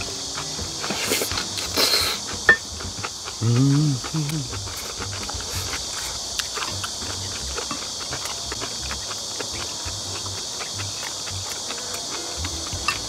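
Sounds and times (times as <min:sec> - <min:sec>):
insects droning: 0:00.0 - 0:13.0
people chewing: 0:00.0 - 0:13.0
chopsticks clicking against bowls: 0:00.4 - 0:13.0.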